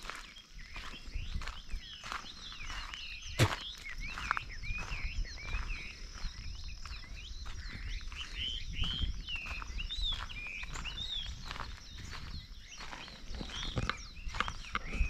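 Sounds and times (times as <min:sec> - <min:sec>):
footsteps on gravel: 0:00.0 - 0:15.0
high chirping and whistling calls: 0:00.0 - 0:15.0.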